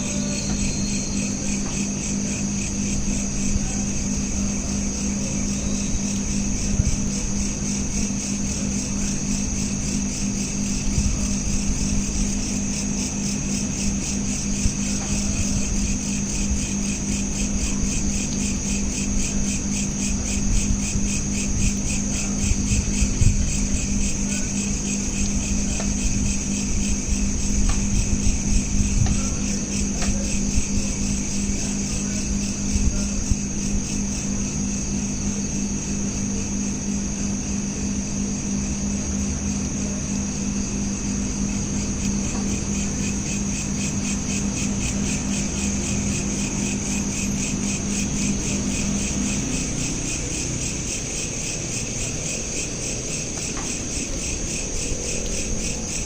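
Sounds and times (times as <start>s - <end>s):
crickets chirping: 0.0s - 56.0s
steady low hum: 0.0s - 56.0s.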